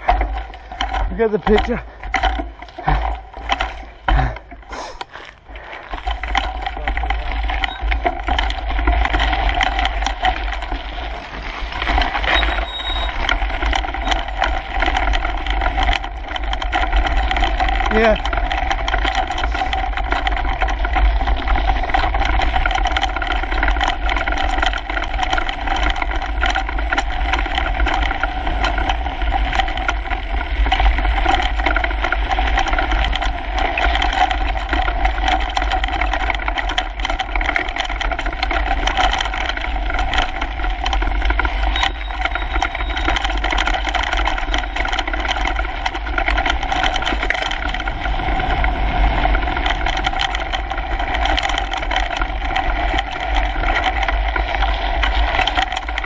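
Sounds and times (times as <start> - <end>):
bike rattling and knocking: 0.0 - 56.0
wind rumble on microphone: 5.5 - 56.0.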